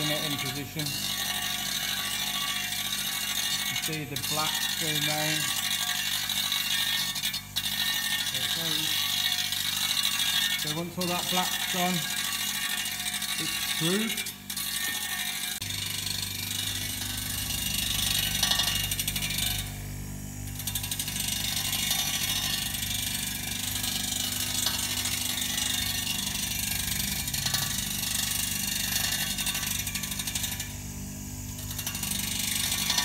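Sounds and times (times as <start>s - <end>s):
wheel grinding steel: 0.0s - 19.8s, 20.5s - 33.0s
grinder motor hum: 0.0s - 33.0s.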